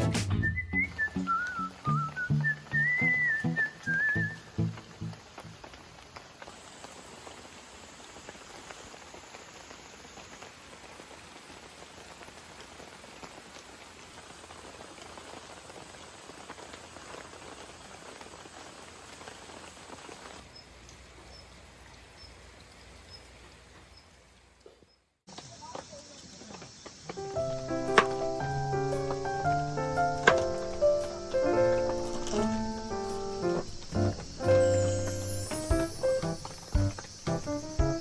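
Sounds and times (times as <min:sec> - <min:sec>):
rain pattering: 0:00.7 - 0:38.0.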